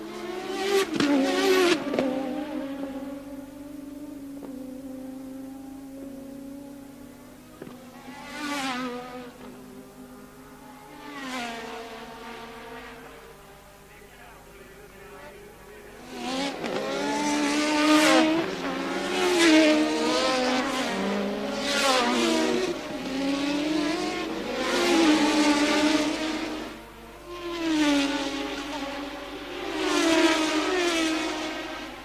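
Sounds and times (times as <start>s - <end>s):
racing cars passing: 0.0s - 32.0s.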